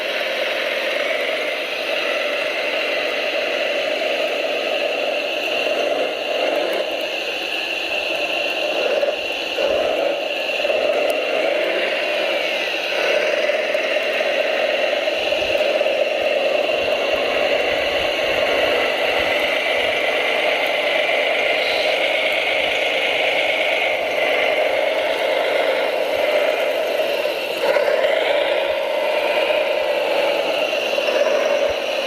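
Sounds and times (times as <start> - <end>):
electric drive whirring and rattling: 0.0 - 32.0.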